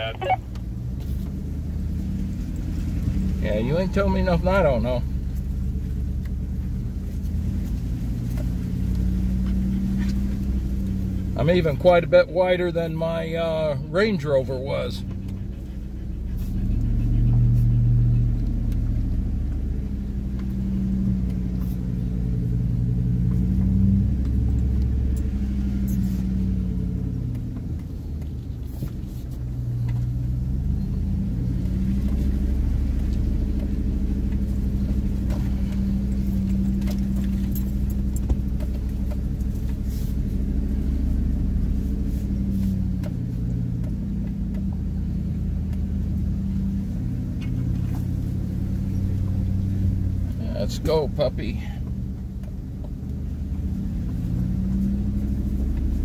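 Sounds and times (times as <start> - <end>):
pickup engine running at low speed: 0.0 - 56.0.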